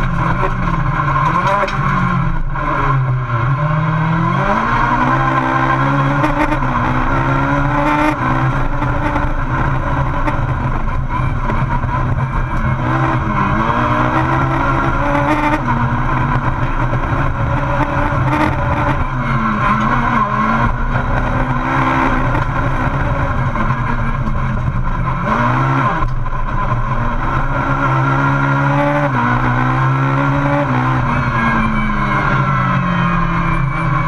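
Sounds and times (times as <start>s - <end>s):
racing engine revving: 0.0s - 34.0s.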